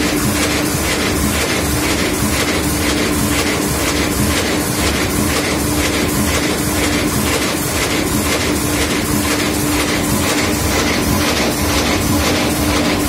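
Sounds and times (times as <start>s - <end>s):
looms mechanical clatter: 0.0s - 13.0s
steady machine hum: 0.0s - 13.0s.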